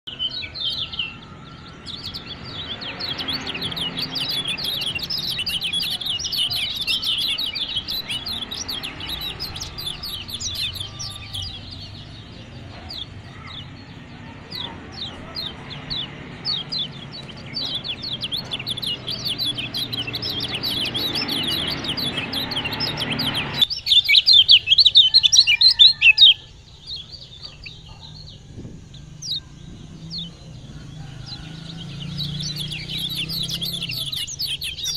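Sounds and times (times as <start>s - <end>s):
bird twittering high chirps: 0.0s - 34.9s.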